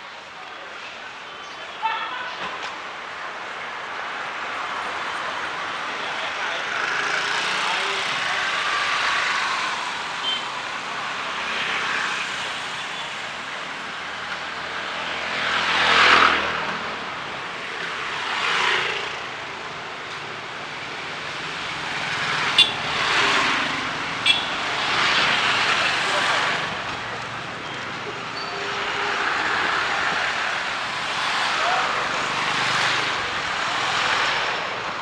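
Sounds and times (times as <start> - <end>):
vehicles passing on wet road: 4.9 - 13.2, 13.8 - 35.0.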